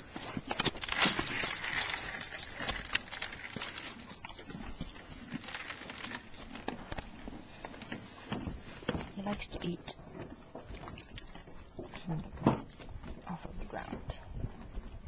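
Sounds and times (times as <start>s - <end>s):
animal feeding clicks and knocks: 0.2s - 13.2s.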